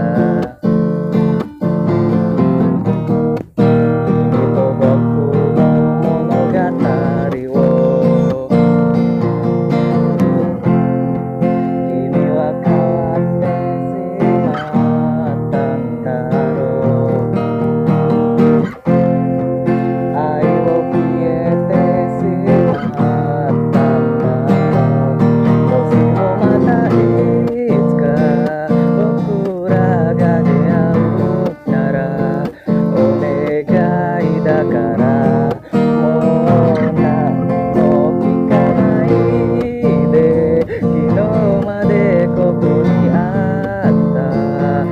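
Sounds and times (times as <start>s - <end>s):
acoustic guitar strummed and plucked: 0.0s - 44.9s.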